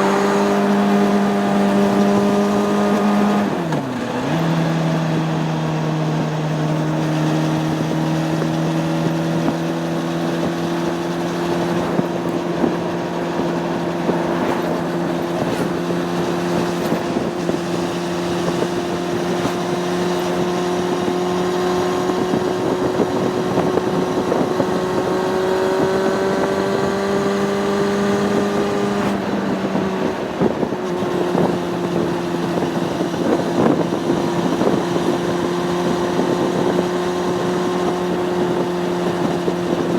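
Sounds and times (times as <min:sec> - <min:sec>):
motorcycle engine at road speed: 0:00.0 - 0:39.9
wind on microphone: 0:00.0 - 0:39.9.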